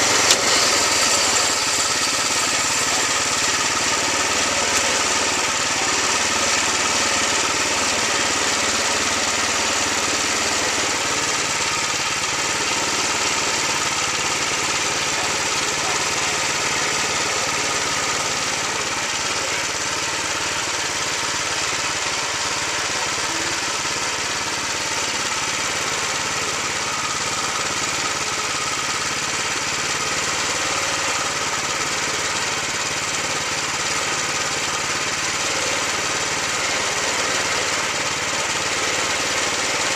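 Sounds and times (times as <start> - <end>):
band saw cutting log: 0.0 - 39.9
engine hum: 0.0 - 39.9.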